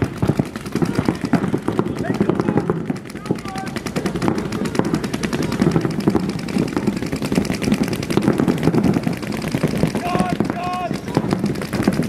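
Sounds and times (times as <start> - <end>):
paintball markers firing rapidly: 0.0 - 12.0.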